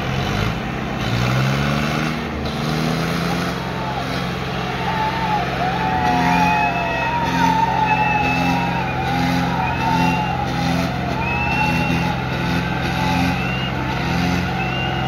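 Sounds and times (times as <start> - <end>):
crowd noise: 0.0 - 15.0
tractor diesel engines under load: 0.0 - 15.0.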